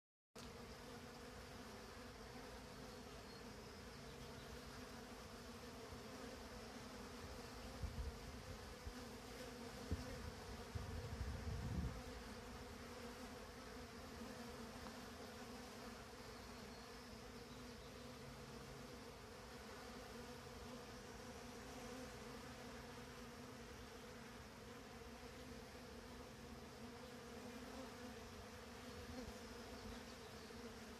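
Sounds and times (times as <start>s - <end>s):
honeybees buzzing: 0.4s - 30.9s.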